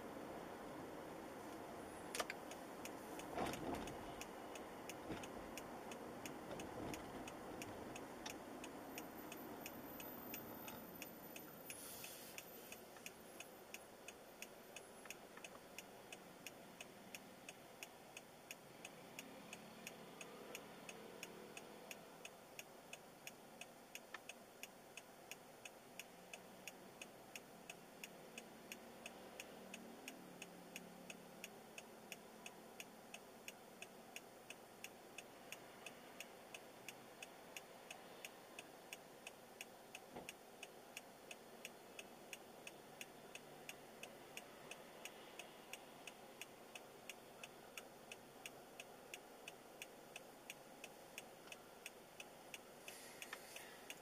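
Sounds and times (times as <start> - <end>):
faint road noise: 0.0 - 54.0
turn signal ticking: 1.5 - 54.0.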